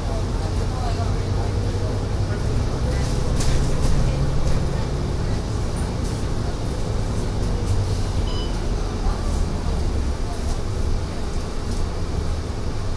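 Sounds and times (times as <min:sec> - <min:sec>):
bus engine drone: 0:00.0 - 0:12.9
road noise: 0:00.0 - 0:12.9.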